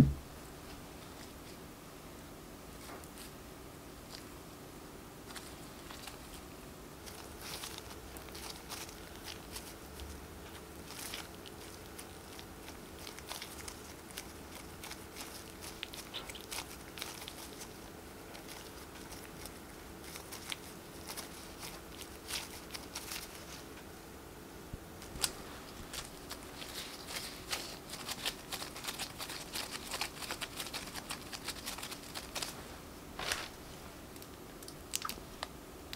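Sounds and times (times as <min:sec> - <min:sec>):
faint steady hum: 0:00.0 - 0:35.9
gloves and dough crackling: 0:00.0 - 0:35.9.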